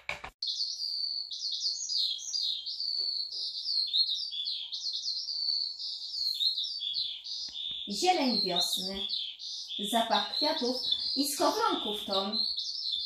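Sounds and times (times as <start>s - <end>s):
songbird singing: 0.4s - 13.0s.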